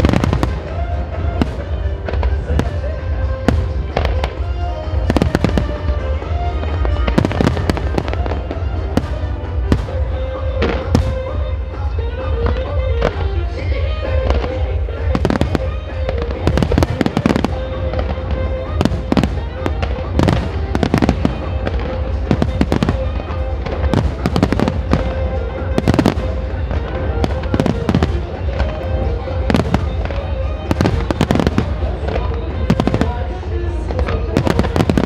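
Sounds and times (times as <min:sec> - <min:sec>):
fireworks bursting: 0:00.0 - 0:35.0.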